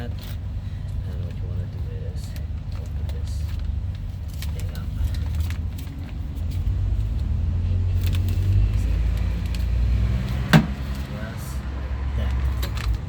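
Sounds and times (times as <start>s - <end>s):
light clicks and crinkles: 0.0s - 13.0s.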